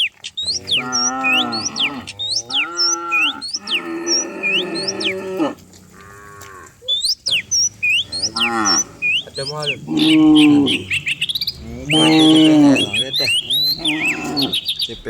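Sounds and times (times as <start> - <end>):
birds chirping: 0.0 - 15.0
cattle mooing: 0.4 - 15.0.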